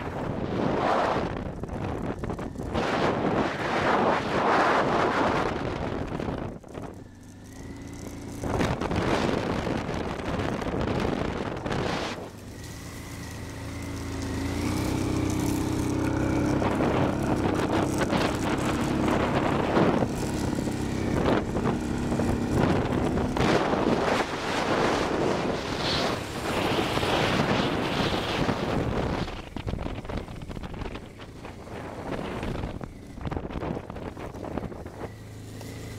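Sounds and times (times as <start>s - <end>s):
motorcycle engine revving: 0.0s - 35.9s
wind buffeting microphone: 0.0s - 35.9s.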